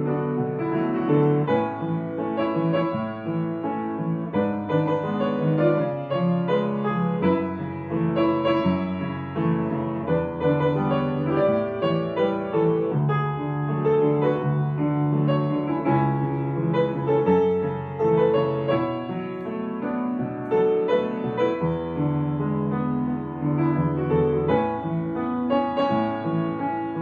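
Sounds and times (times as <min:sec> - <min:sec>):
soft slow piano music: 0:00.0 - 0:27.0.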